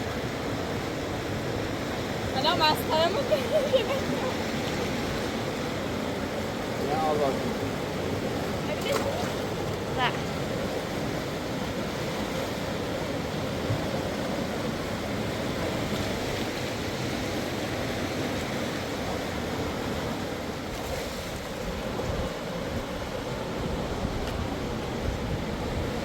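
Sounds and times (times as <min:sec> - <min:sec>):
fast river rushing: 0:00.0 - 0:26.0.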